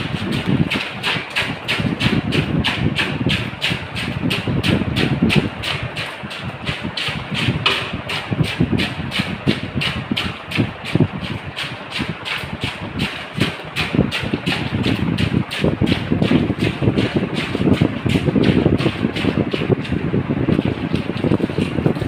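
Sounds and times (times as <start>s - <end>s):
tomatoes squelching being stirred: 0.0s - 22.0s.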